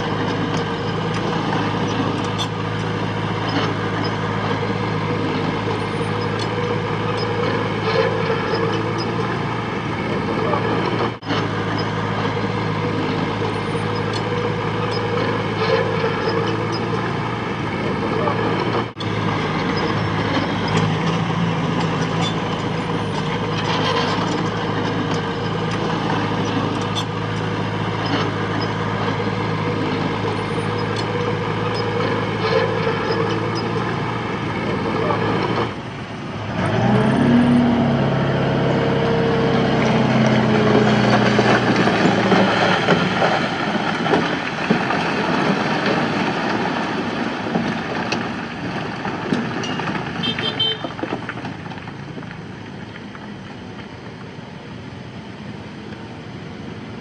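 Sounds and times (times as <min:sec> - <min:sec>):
diesel engine running and revving: 0:00.0 - 0:57.0.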